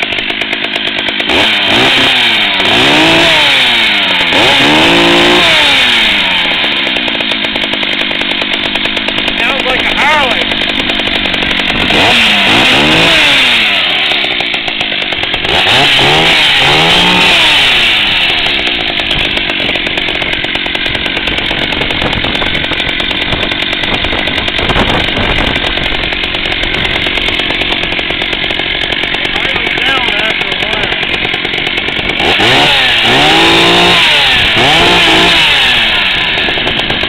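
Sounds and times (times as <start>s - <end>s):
chainsaw engine revving: 0.0s - 37.0s.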